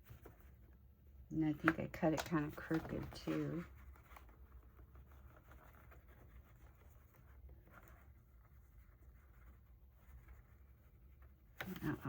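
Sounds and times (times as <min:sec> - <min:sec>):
paper rustling and scratching: 0:00.0 - 0:00.8, 0:01.6 - 0:12.0
low room hum: 0:00.0 - 0:12.0.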